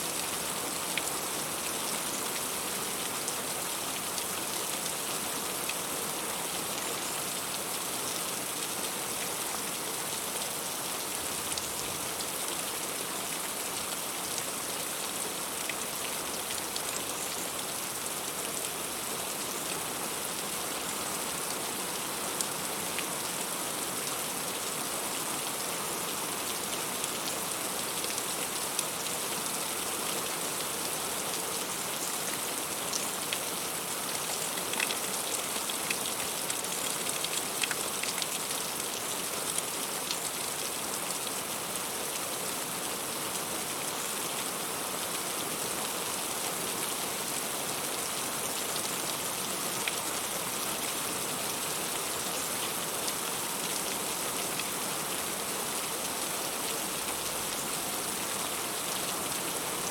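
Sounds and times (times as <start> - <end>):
heavy rain on leaves: 0.0 - 59.9.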